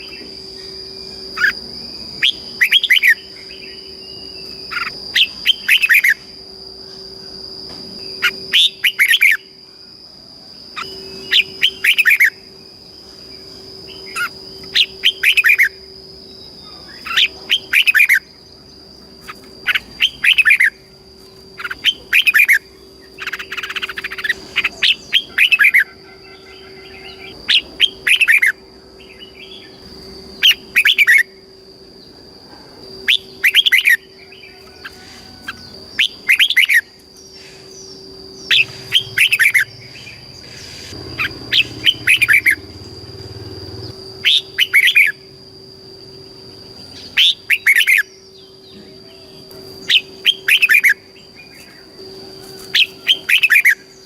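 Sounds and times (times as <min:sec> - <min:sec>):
steady high-pitched tone: 0:00.0 - 0:54.0.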